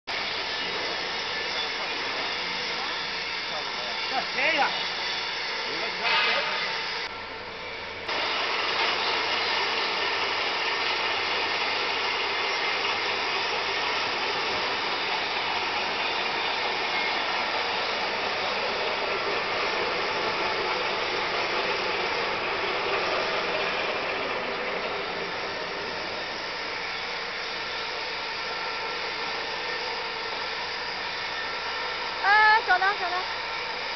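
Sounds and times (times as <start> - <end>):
granulator machine running: 0.1 - 33.9.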